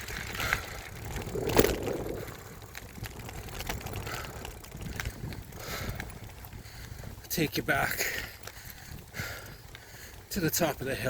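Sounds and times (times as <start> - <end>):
bike rumble and rattle: 0.0 - 11.0.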